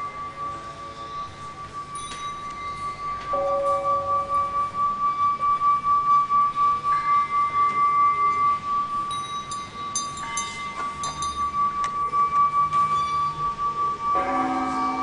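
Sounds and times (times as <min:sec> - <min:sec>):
ringing chime tones music: 0:00.0 - 0:15.0.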